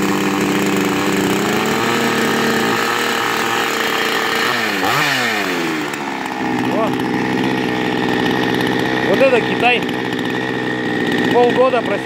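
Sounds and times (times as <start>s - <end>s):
two-stroke chainsaw engine running: 0.0s - 12.0s.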